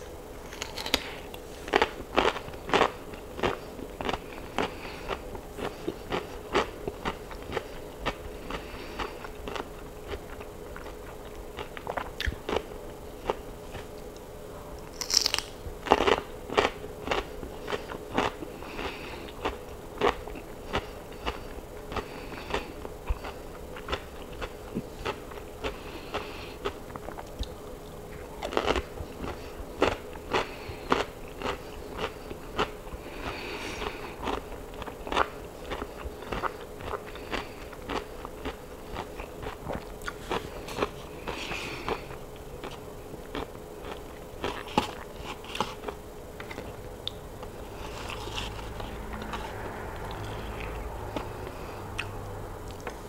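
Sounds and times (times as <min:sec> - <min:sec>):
crunching and chewing cucumber: 0:00.0 - 0:14.2, 0:14.9 - 0:53.0.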